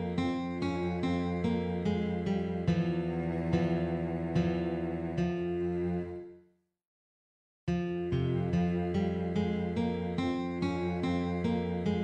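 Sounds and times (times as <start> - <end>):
slow film score melody: 0.0 - 6.4, 7.8 - 12.0.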